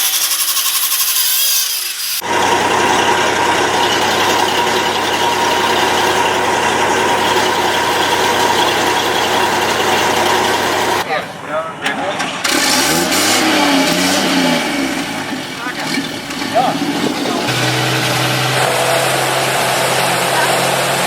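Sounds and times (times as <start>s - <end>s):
engine running steadily: 2.2s - 21.0s.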